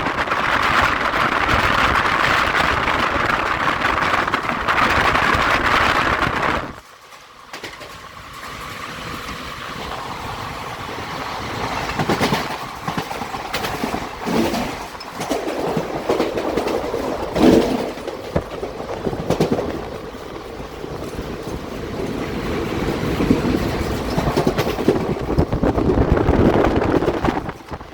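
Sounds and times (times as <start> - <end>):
train rushing past: 0.0 - 27.9
train wheels clattering over rail joints: 0.0 - 27.9.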